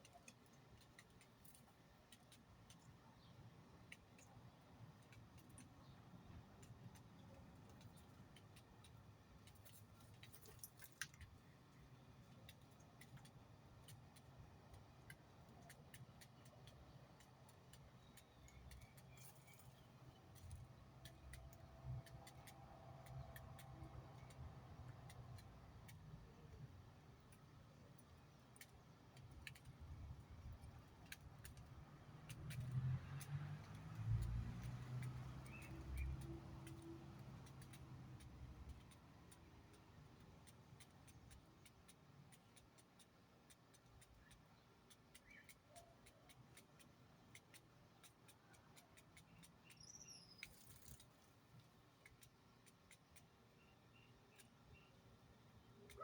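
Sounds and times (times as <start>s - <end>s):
faint clicks: 0.0s - 56.0s.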